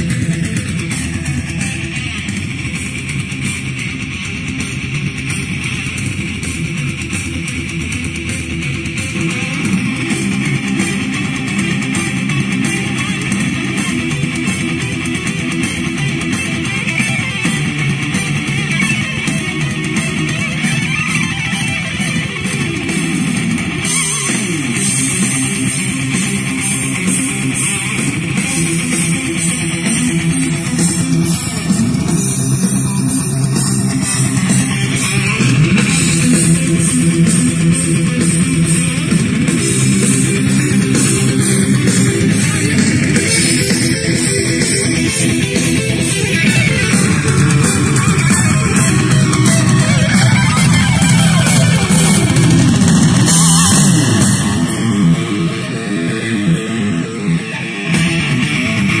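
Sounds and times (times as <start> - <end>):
guitar-led music with steady beat: 0.0 - 59.0.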